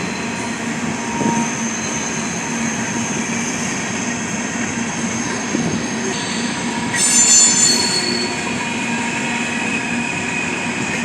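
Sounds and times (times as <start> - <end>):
train rumbling past: 0.0 - 11.0
train wheel squeal: 0.0 - 11.0.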